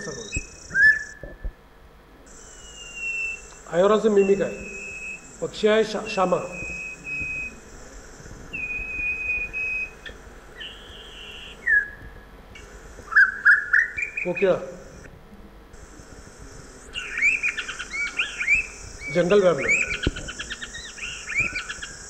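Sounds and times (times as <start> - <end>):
recorded birdsong over speaker: 0.0 - 1.6, 2.2 - 22.0.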